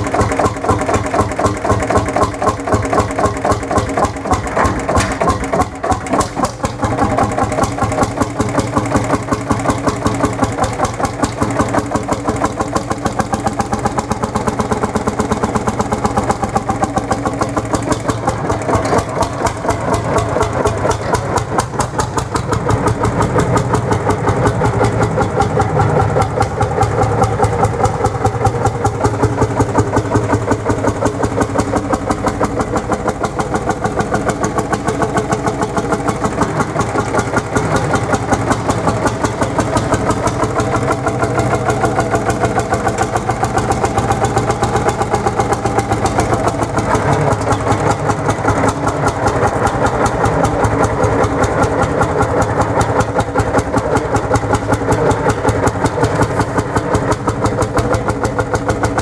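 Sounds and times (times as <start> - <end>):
tractor engine thumping: 0.0 - 59.0.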